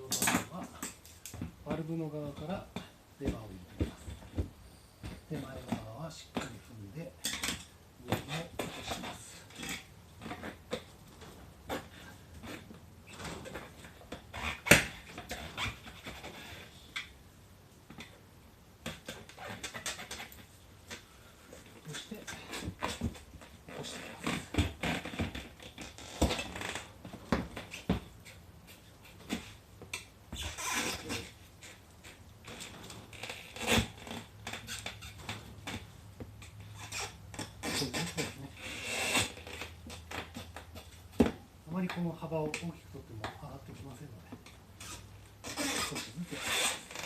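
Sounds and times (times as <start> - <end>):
tire levers scraping on rim: 0.1 - 17.2, 18.8 - 41.3, 44.4 - 47.0.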